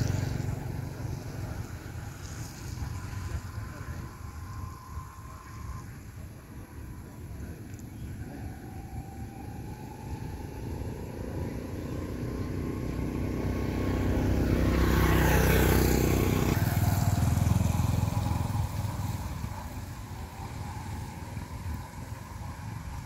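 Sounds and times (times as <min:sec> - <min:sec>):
motor vehicle passing: 0:00.0 - 0:23.0.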